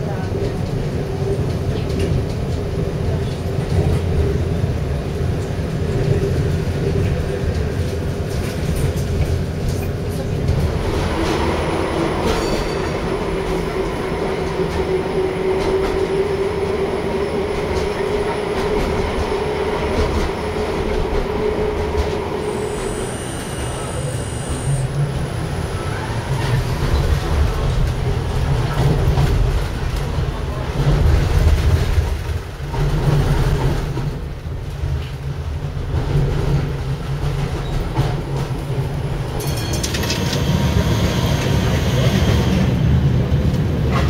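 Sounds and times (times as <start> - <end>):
tram wheels rumbling on rails: 0.0 - 44.0
tram whine: 0.0 - 44.0.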